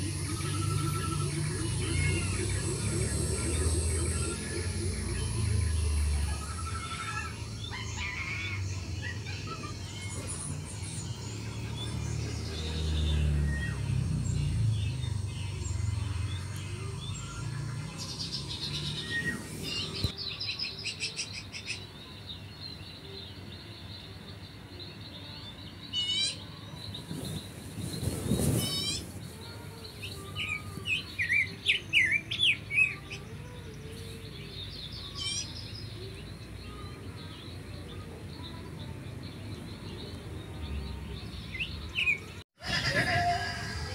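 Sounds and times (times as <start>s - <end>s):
birds chirping and singing: 0.0s - 43.9s.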